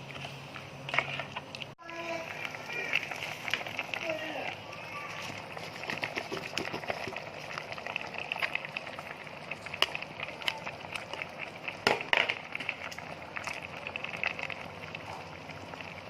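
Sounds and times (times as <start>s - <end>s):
food sizzling in a pan: 1.8s - 16.0s.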